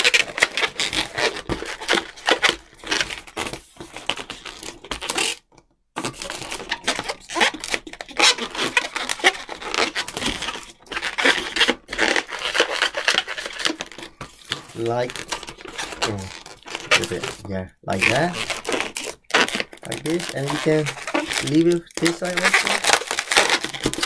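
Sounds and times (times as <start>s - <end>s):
balloons squeaking and rubbing: 0.0s - 24.0s.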